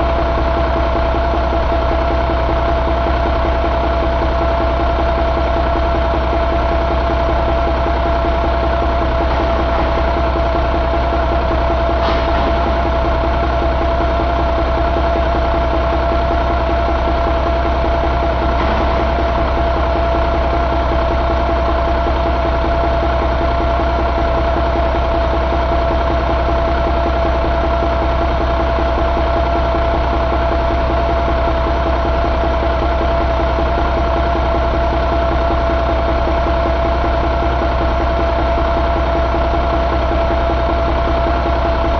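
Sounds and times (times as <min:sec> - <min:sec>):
diesel engine idling with whine: 0:00.0 - 0:41.9.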